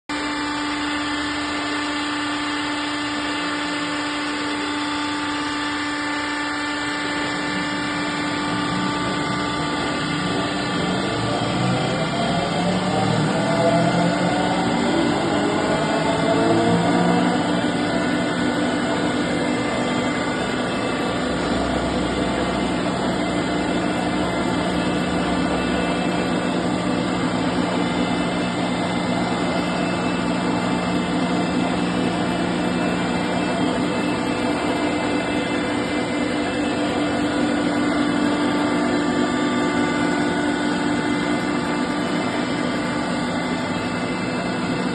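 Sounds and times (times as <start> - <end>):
crusher machine droning: 0.1 - 44.9.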